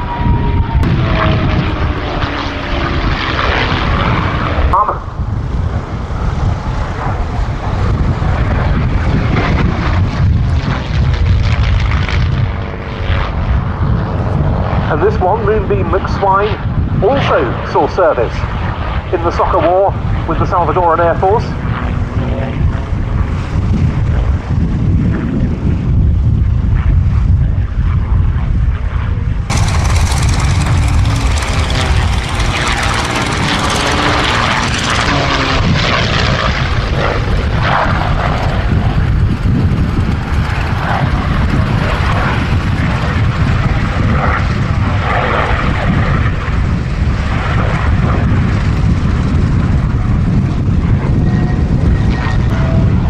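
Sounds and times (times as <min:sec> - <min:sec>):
aircraft engine droning in flight: 0:00.0 - 0:53.0.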